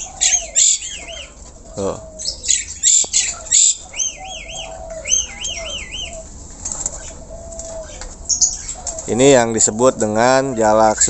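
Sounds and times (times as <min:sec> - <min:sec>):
starling singing: 0:00.0 - 0:11.0.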